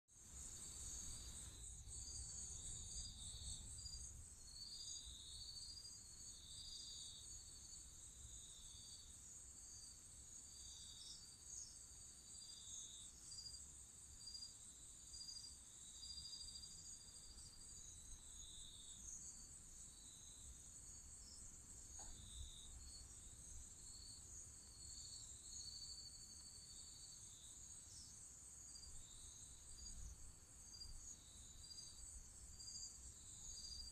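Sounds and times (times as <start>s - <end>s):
insects chirping: 0.2s - 33.9s
crickets trilling: 0.3s - 13.6s, 14.2s - 33.9s.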